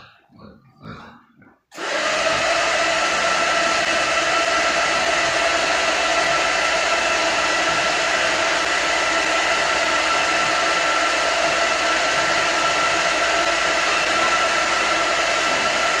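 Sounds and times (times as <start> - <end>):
feed cart motor whirring: 1.7 - 16.0.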